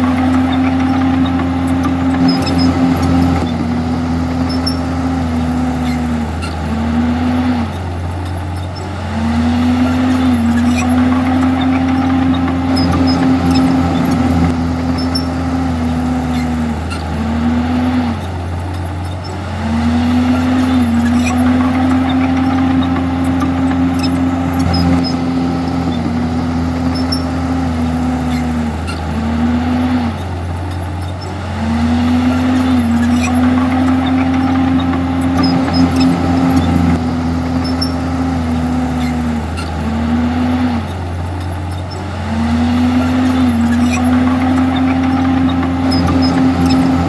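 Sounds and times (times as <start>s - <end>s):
bulldozer diesel engine under load: 0.0s - 47.0s.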